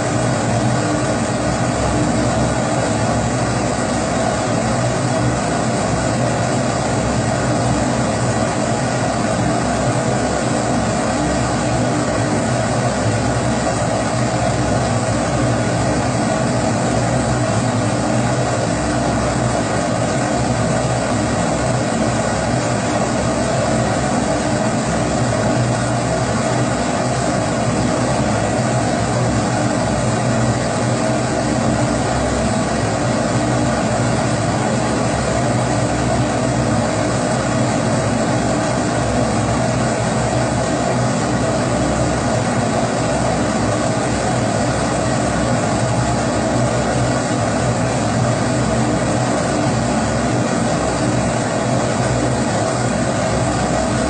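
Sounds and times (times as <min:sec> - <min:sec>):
pressure stove burner roaring: 0:00.0 - 0:54.0.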